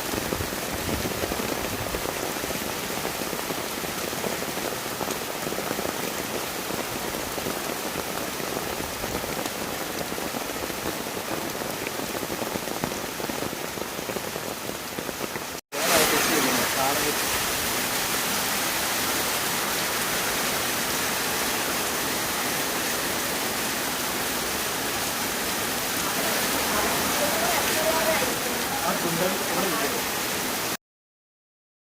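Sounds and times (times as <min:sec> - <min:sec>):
heavy rain: 0:00.0 - 0:30.8.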